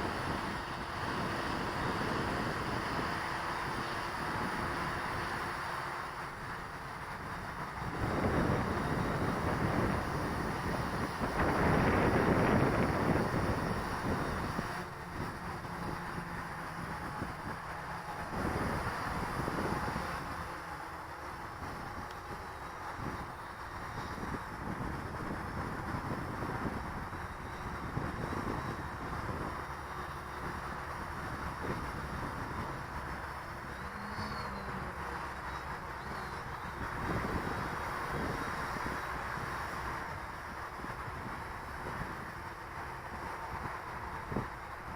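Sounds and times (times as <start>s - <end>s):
quadcopter motors humming: 0.0s - 44.9s
wind buffeting microphone: 0.0s - 44.9s.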